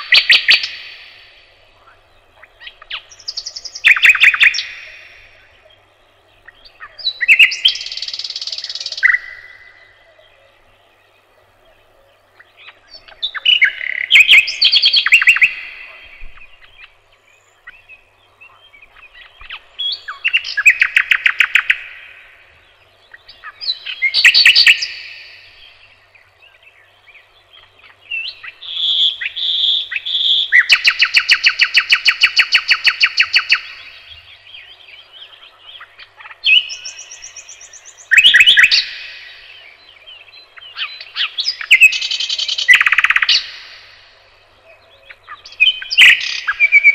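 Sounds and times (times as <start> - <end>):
songbird singing trills: 0.0 - 46.9.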